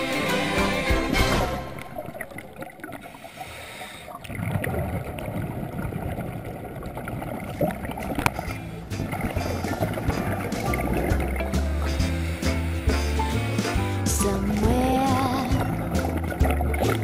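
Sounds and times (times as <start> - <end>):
underwater regulator bubbles: 0.9 - 17.0.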